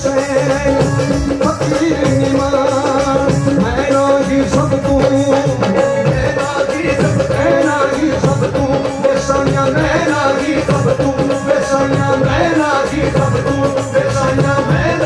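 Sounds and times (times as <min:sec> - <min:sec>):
band playing: 0:00.0 - 0:15.0
drum beats: 0:00.0 - 0:15.0
man singing: 0:00.0 - 0:15.0.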